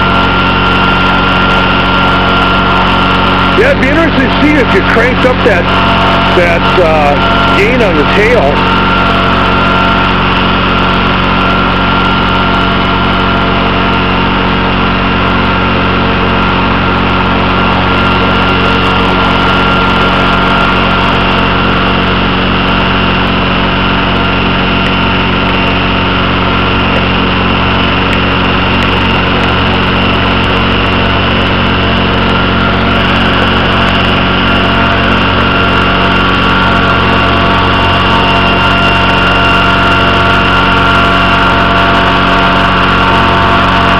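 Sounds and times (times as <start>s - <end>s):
model helicopter motor whining: 0.0s - 43.9s.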